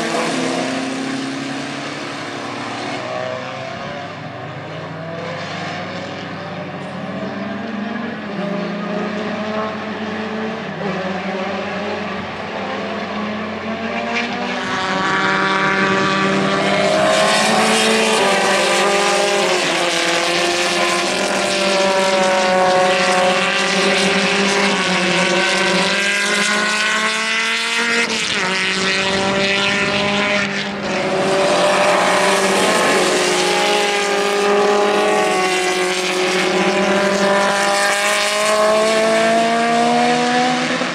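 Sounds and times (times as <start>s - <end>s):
race car engine at high revs: 0.0s - 40.9s.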